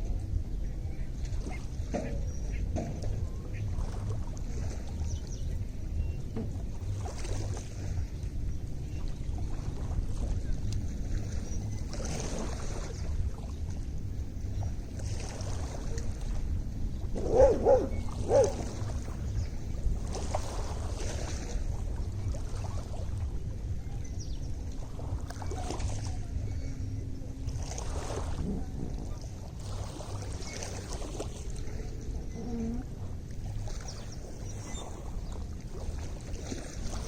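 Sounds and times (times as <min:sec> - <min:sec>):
wind rumble on microphone: 0:00.0 - 0:37.0
waves lapping at shore: 0:01.0 - 0:37.0.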